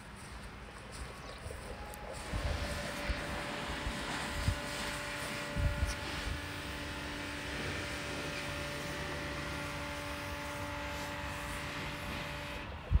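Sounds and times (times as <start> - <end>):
engine hum with low rumble: 0.0 - 13.0.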